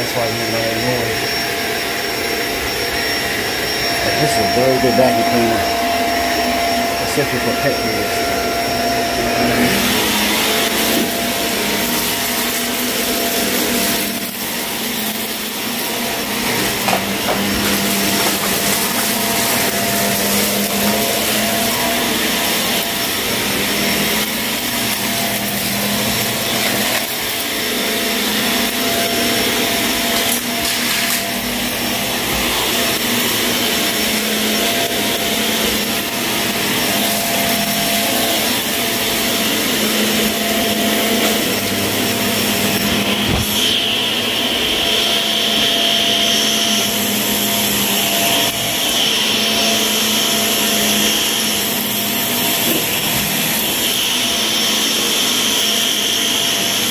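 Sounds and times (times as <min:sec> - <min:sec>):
grit crackling up vacuum: 0:00.0 - 0:45.7
vacuum cleaner on carpet: 0:00.0 - 0:56.9.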